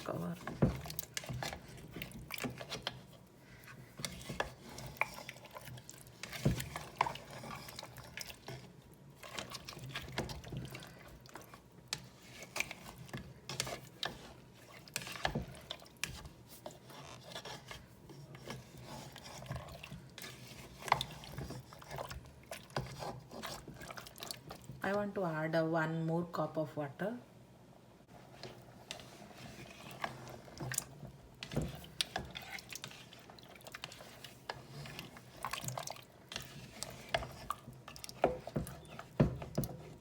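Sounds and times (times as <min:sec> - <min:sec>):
liquid sloshing in a pot: 0:00.0 - 0:25.1, 0:28.1 - 0:40.0.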